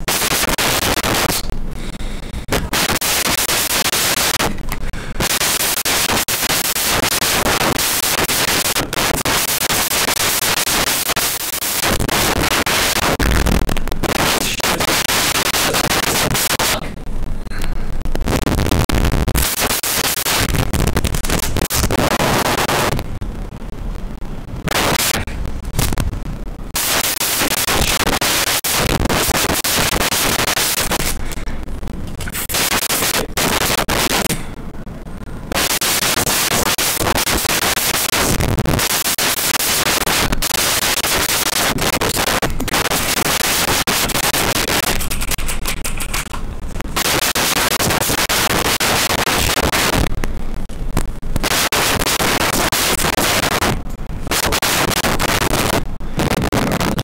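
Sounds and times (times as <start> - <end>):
loud dense crackling: 0.0 - 57.0.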